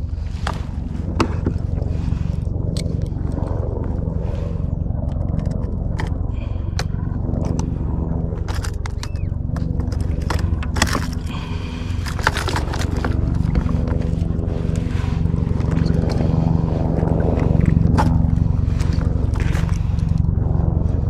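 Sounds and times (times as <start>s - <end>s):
steady low hum: 0.0s - 21.0s
fishing gear clicking and rattling: 0.4s - 20.3s.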